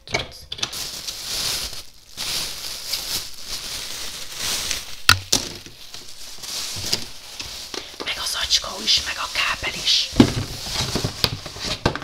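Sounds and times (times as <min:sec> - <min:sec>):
packaging rustling: 0:00.6 - 0:12.0.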